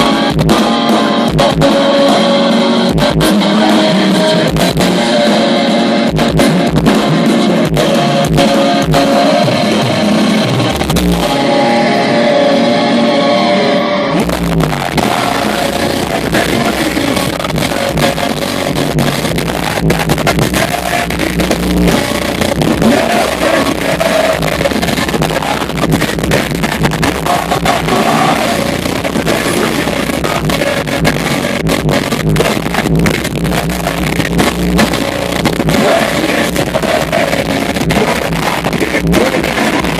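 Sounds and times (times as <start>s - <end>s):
drum kit: 0.0s - 13.2s, 14.2s - 39.9s
distorted electric guitars: 0.0s - 39.9s
metalcore band playing live: 0.0s - 39.9s
strong bass: 0.0s - 39.9s.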